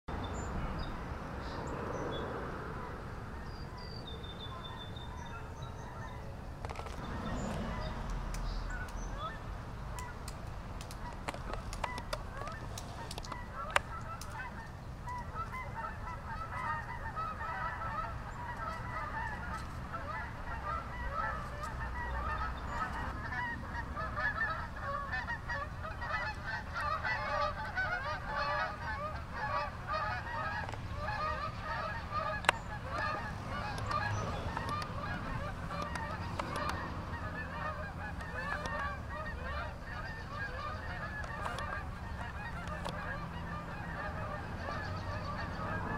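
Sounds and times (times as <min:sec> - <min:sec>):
flock of geese honking: 0:00.3 - 0:45.9.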